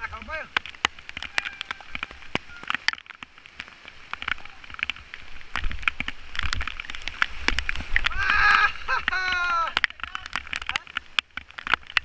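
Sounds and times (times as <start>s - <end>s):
rain drops ticking: 0.0s - 12.0s.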